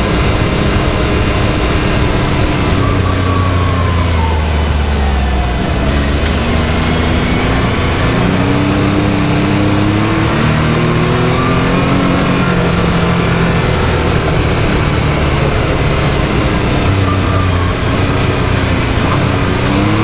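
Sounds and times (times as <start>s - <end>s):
turbocharged engine under throttle: 0.0s - 20.0s.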